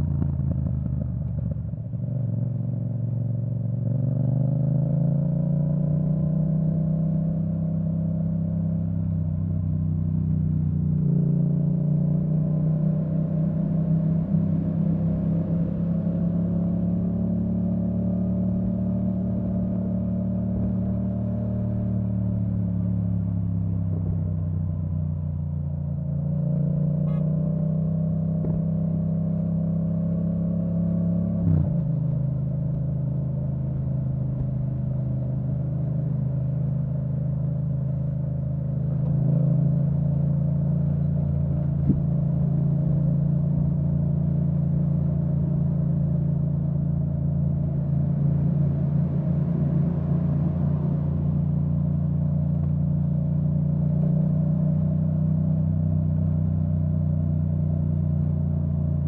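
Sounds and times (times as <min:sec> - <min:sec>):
motorcycle engine on the move: 0:00.0 - 0:59.0.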